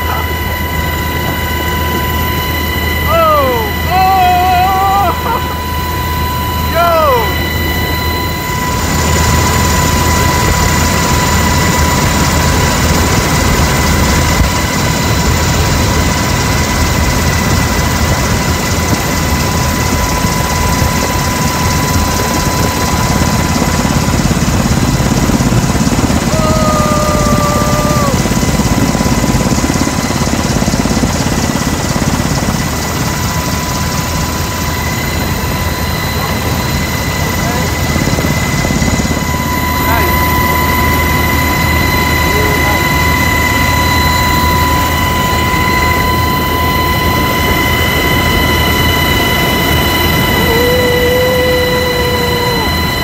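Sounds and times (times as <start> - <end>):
high whine: 0.0 - 29.0, 33.0 - 53.0
helicopter rotor and engine: 0.0 - 53.0.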